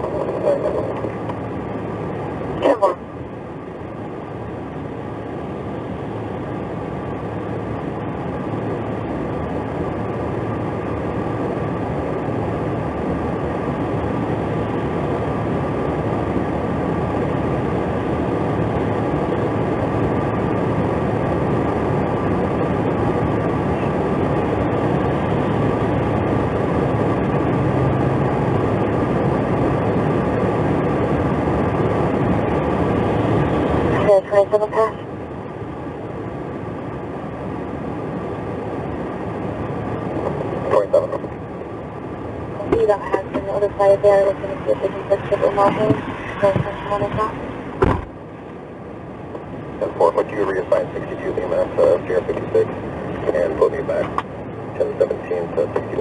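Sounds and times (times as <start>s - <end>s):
highway traffic rushing by: 0.0s - 56.0s.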